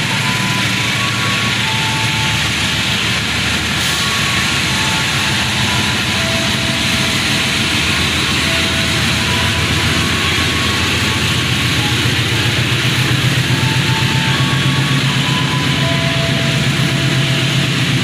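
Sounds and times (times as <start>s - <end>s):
low engine rumble: 0.0s - 18.0s
train rushing noise: 0.0s - 18.0s.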